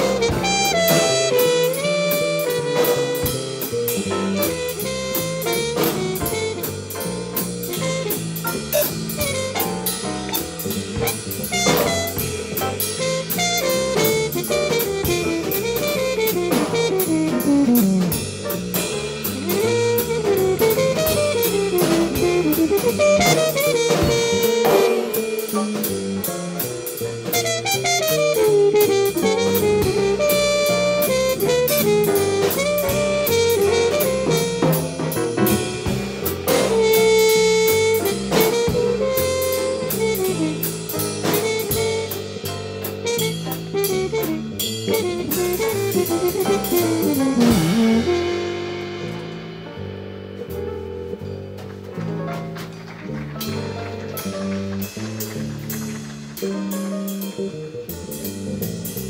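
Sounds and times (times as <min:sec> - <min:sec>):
jazz drumming: 0:00.0 - 0:59.0
small-group jazz recording: 0:00.0 - 0:59.0.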